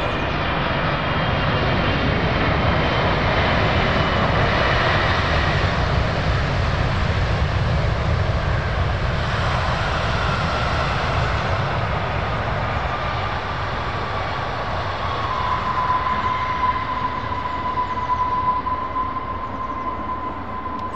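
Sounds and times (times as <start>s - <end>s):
jet engines rumbling with whine: 0.0s - 20.9s.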